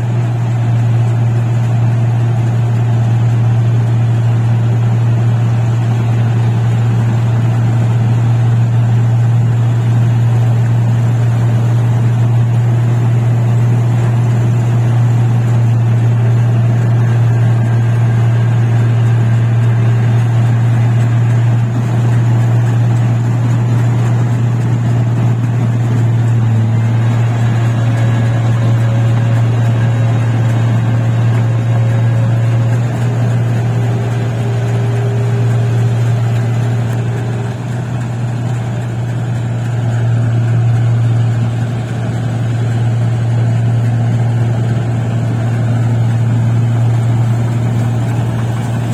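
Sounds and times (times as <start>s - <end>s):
combine harvester engine droning: 0.0s - 48.9s.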